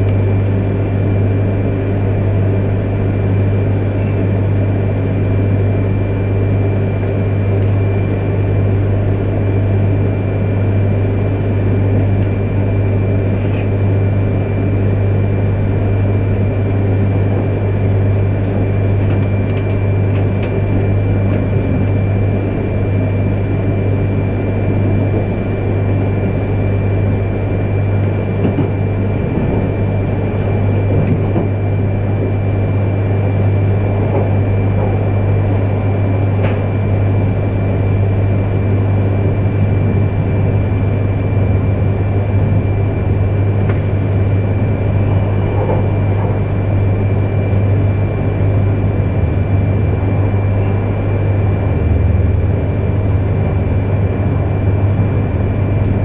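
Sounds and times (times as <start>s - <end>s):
train interior low hum: 0.0s - 56.0s.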